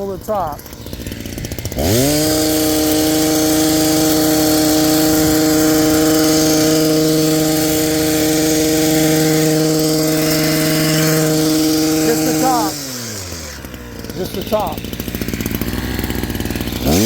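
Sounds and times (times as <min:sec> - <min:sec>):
electric hedge trimmer running: 0:00.0 - 0:17.0.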